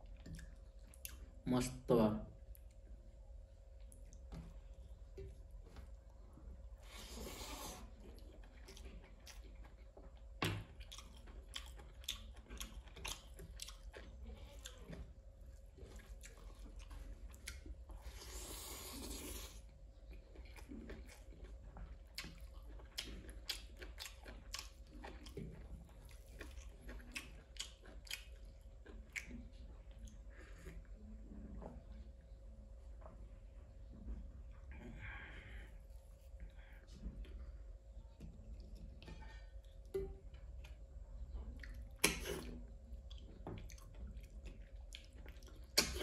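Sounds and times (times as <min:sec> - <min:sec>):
person chewing food: 0:00.0 - 0:01.4, 0:02.5 - 0:32.1, 0:34.4 - 0:46.0.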